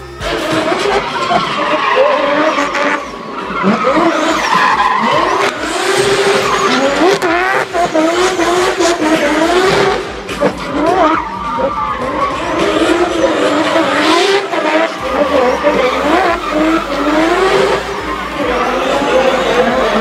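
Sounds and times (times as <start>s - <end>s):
car engine revving: 0.0s - 20.0s
tyres squealing: 0.0s - 20.0s.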